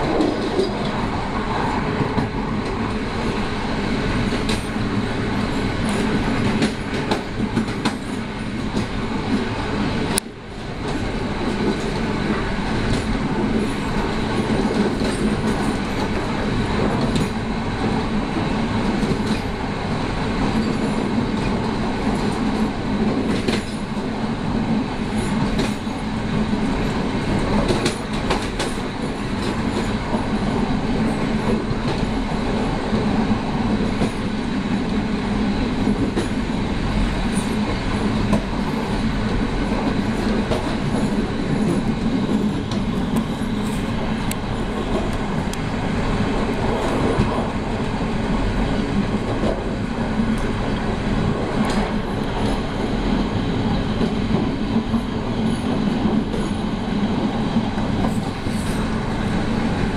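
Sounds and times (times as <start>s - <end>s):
rail rumble: 0.0s - 59.9s.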